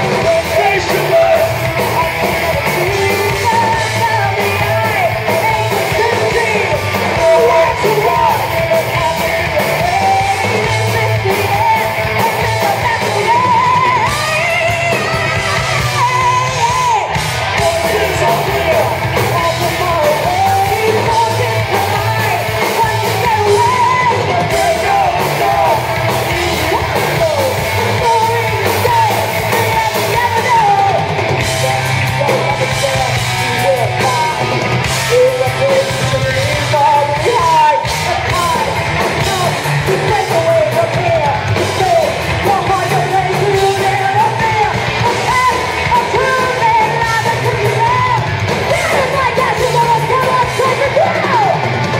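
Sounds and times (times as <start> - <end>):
live heavy metal band: 0.0 - 51.9
person singing: 0.0 - 51.9.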